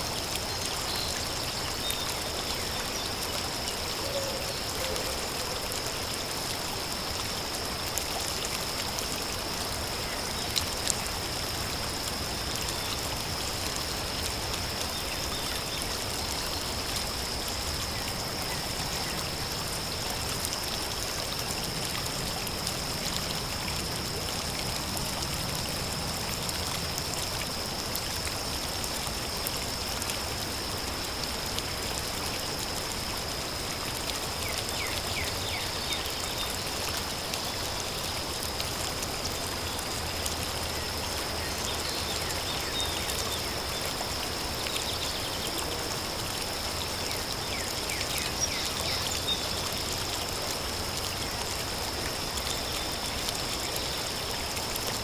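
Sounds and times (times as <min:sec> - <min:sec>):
river flowing over gravel: 0:00.0 - 0:55.0.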